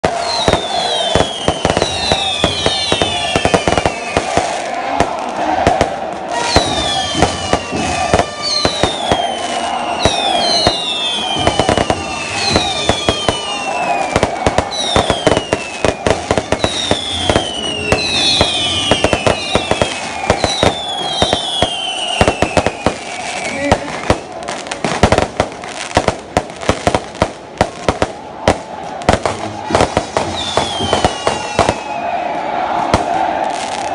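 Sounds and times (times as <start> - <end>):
falling firework whistles: 0.0 - 4.6, 5.8 - 24.3, 29.1 - 33.9
fireworks cracking and banging: 0.0 - 33.9.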